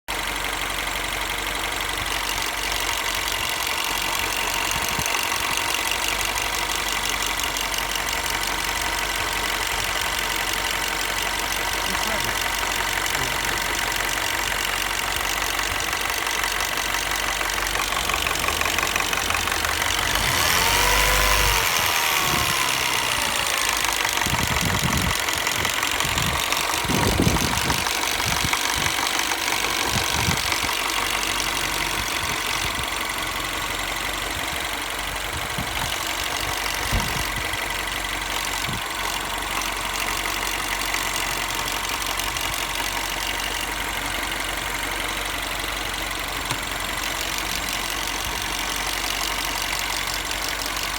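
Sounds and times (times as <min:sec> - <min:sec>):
car engine idling: 0:00.1 - 0:50.9
engine knocking and ticking: 0:00.1 - 0:50.9.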